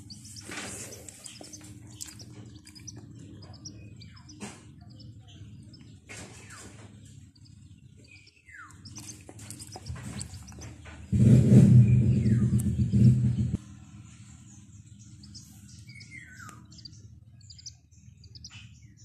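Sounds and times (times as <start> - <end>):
low steady background hum: 0.0 - 11.4, 12.0 - 19.0
baby chick peeping: 0.0 - 19.0.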